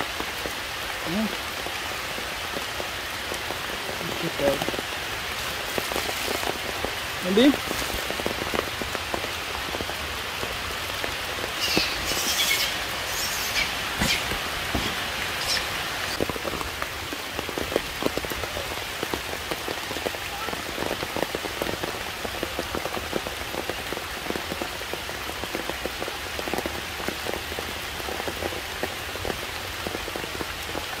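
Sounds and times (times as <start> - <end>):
rain on plants and stone: 0.0 - 31.0.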